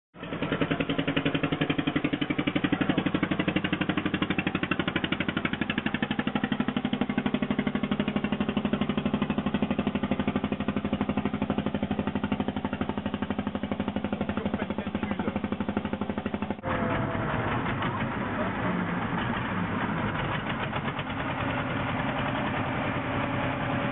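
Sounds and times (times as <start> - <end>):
boat engine chugging: 0.2 - 23.9.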